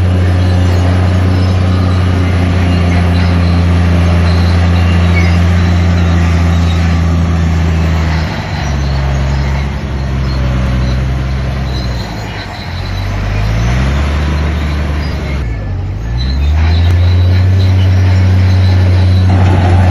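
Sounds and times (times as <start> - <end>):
bulldozer diesel engine under load: 0.0 - 19.9.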